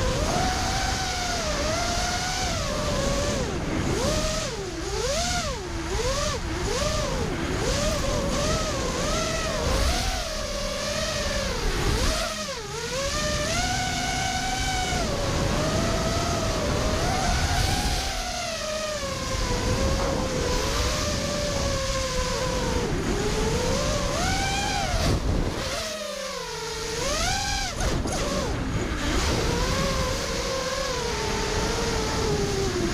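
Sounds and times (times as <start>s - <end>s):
drone motors whining: 0.0s - 32.9s
rushing wind: 0.0s - 32.9s.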